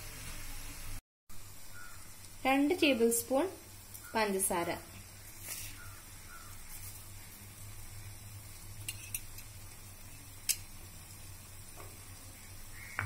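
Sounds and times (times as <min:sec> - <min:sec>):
bananas sizzling in frying pan: 0:00.0 - 0:13.0.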